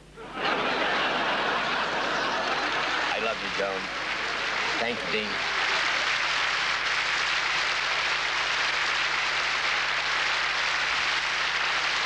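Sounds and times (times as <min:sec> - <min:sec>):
audience applauding: 0:00.4 - 0:12.0.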